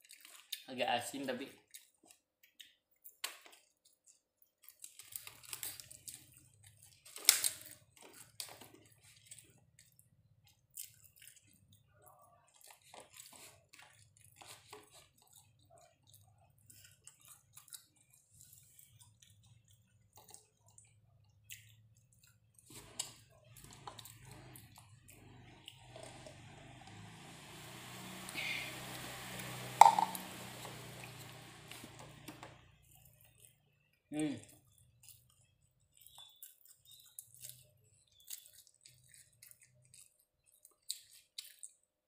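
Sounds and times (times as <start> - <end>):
person chewing food: 0.0 - 0.7, 1.6 - 42.0.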